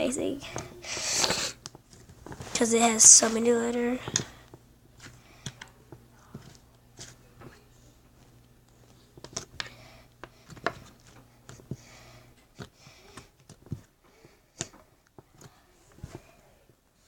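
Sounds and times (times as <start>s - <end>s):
slime squishing by hand: 0.4s - 17.0s.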